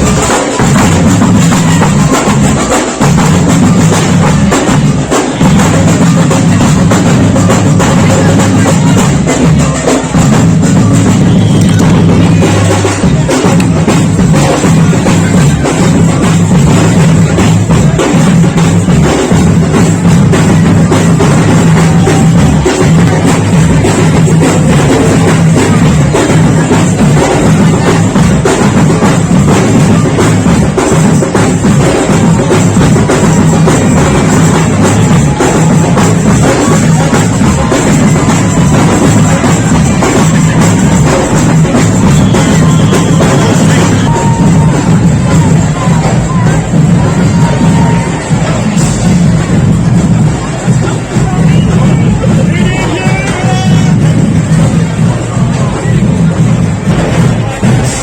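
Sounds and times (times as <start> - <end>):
bass drum drumming: 0.0 - 58.0
marching band music: 0.0 - 58.0
snare drum drumming: 0.0 - 58.0.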